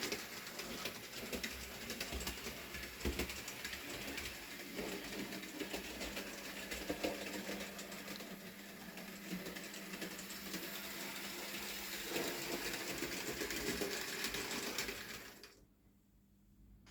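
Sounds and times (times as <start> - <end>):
wheels clicking on rails: 0.0 - 15.5.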